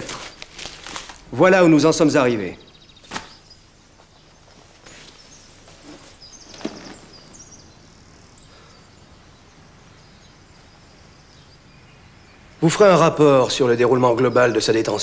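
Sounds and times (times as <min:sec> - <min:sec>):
high bird chirps: 0:01.4 - 0:15.0.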